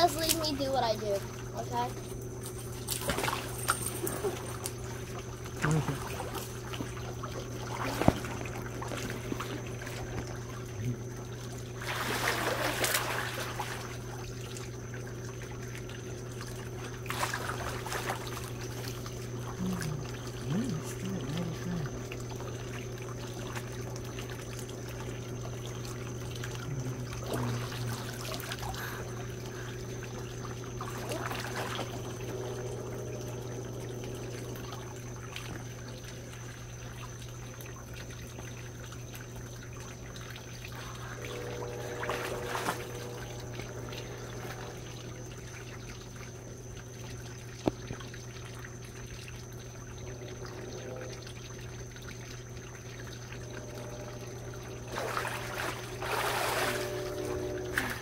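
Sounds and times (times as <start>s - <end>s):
pump humming: 0.0s - 58.0s
water churning and splashing: 0.0s - 58.0s.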